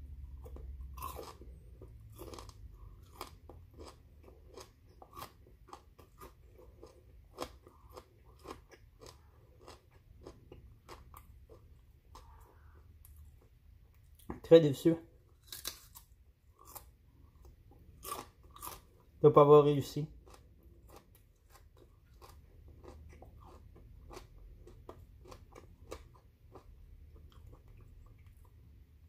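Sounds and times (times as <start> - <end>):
man chewing crunchy broccoli: 0.1 - 14.3, 15.3 - 19.2, 20.1 - 28.6.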